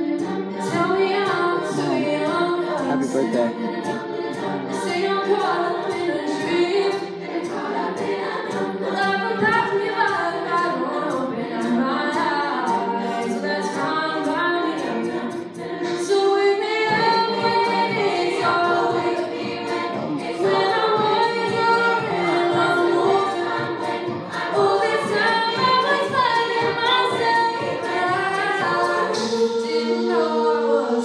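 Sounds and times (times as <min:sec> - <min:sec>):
a cappella choir singing: 0:00.0 - 0:31.0.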